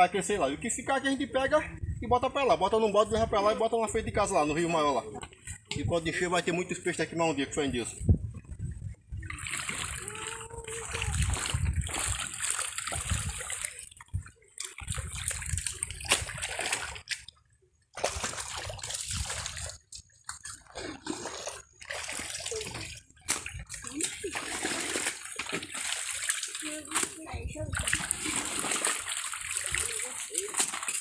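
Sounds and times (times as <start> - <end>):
water splashing and sloshing: 4.3 - 31.0.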